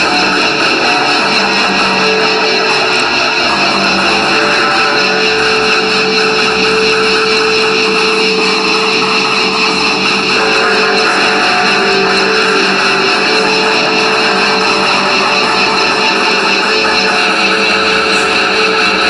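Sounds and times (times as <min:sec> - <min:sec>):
distorted electric guitar band music: 0:00.0 - 0:19.0.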